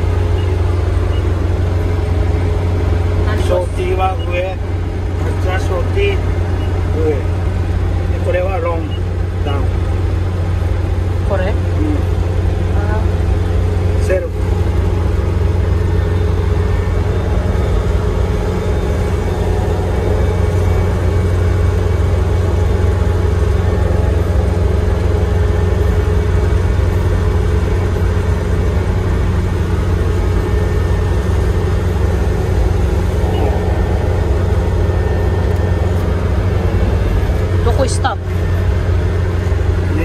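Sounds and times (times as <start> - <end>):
combine harvester engine drone: 0.0 - 40.0.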